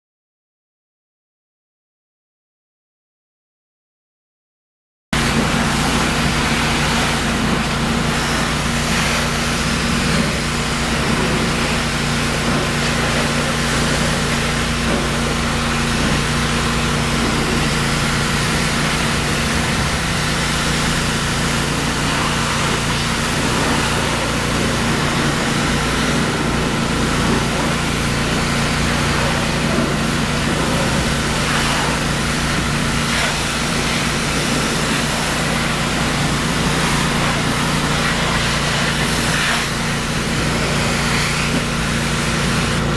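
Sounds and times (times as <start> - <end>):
high-pressure water spray hissing: 5.2 - 42.9
pressure washer engine drone: 5.2 - 42.9.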